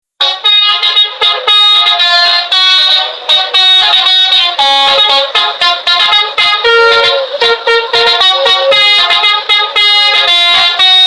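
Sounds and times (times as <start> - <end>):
bus horn playing melody: 0.2 - 11.0.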